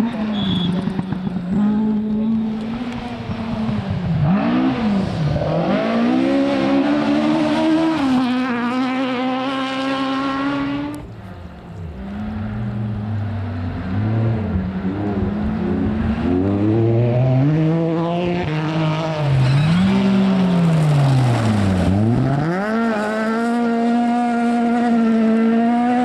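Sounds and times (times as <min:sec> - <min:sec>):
rally car engine accelerating: 0:00.0 - 0:26.0.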